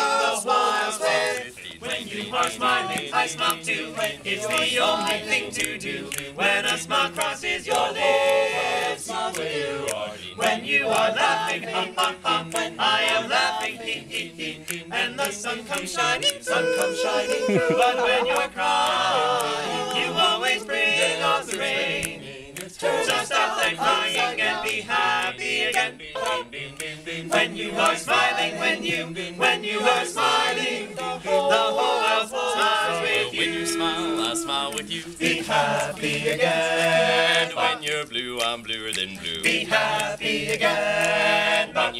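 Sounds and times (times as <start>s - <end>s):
male a cappella group singing: 0.0s - 41.9s.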